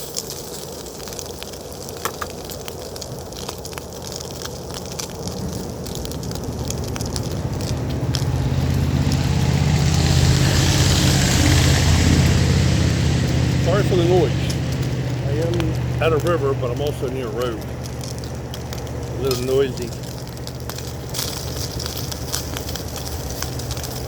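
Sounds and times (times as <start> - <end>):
food sizzling in a frying pan: 0.0 - 24.0
road vehicle passing: 4.7 - 24.0.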